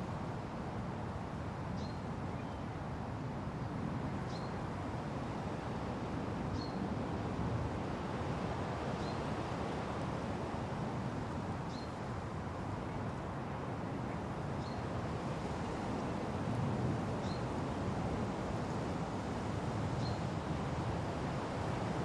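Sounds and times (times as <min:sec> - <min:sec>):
wind in trees: 0:00.0 - 0:22.0.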